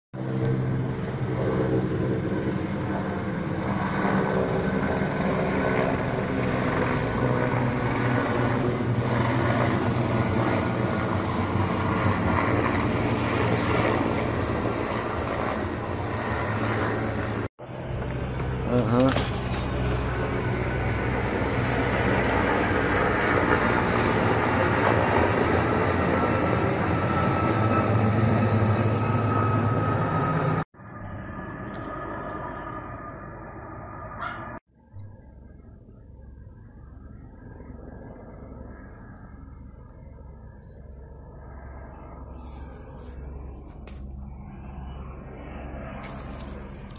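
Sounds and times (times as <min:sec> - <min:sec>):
helicopter rotor drone: 0:00.2 - 0:46.9
low hum: 0:00.2 - 0:46.9.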